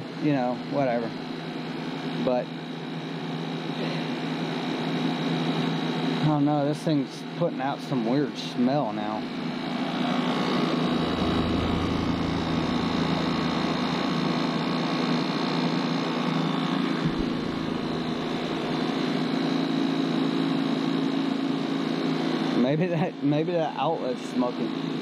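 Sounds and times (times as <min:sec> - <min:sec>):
air conditioner humming: 0:00.0 - 0:25.0
fan motor vibrating: 0:00.0 - 0:25.0.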